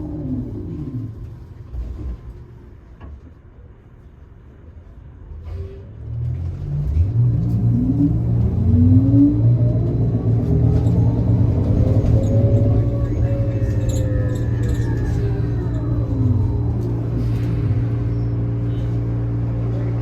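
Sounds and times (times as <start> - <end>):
bus rumble: 0.0 - 20.0.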